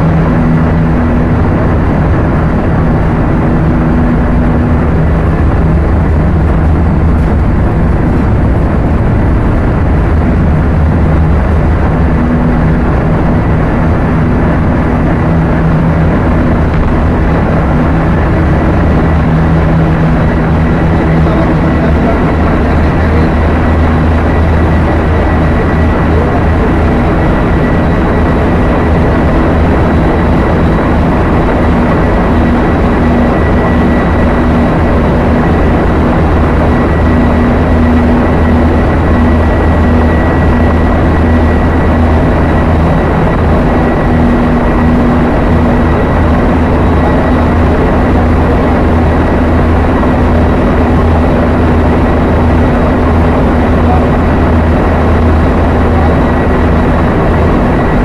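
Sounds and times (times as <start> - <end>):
deep hum: 0.0 - 58.0
engine room machinery din: 0.0 - 58.0
thin high whine: 0.0 - 58.0.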